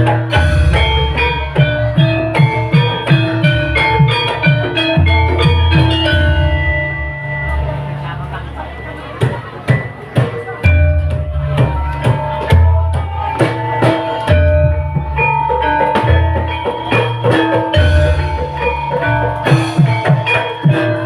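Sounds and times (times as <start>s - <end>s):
drum strokes: 0.0s - 21.0s
struck metal instruments ringing: 0.0s - 21.0s.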